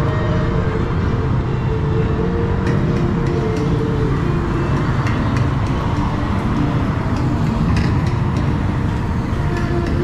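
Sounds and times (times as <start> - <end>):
road and riding noise: 0.0 - 10.0.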